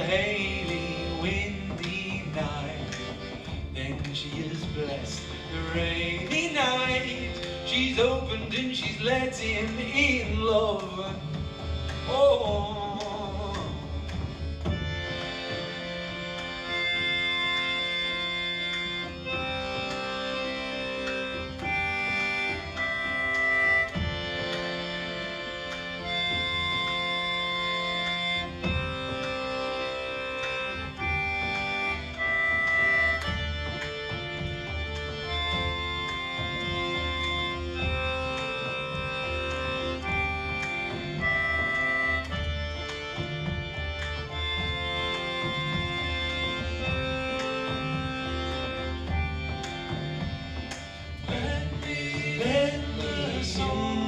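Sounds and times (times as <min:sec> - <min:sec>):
light percussive taps: 0:00.0 - 0:54.0
sustained instrument chords: 0:00.0 - 0:54.0.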